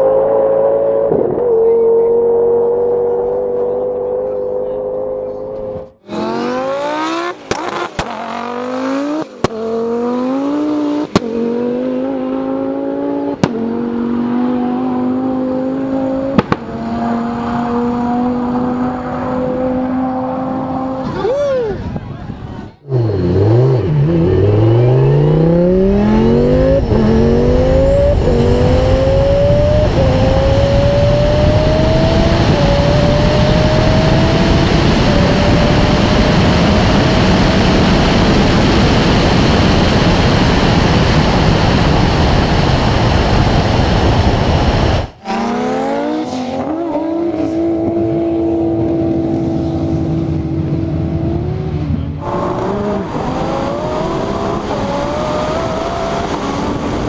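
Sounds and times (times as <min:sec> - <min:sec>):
car engine at full throttle: 0:00.0 - 0:57.0
engine and wind rush at speed: 0:00.0 - 0:57.0.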